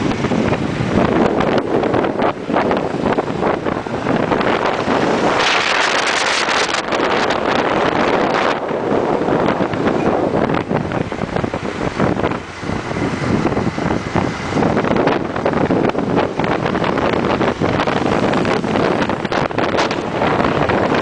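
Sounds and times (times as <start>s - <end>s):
motorcycle running: 0.0s - 21.0s
road noise: 0.0s - 21.0s
wind buffeting microphone: 0.0s - 21.0s.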